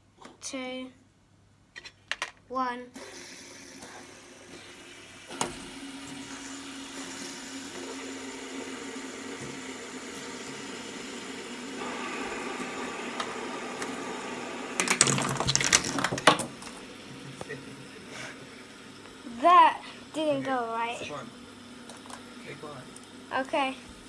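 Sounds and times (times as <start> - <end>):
fidget spinners whirring: 2.9 - 24.0.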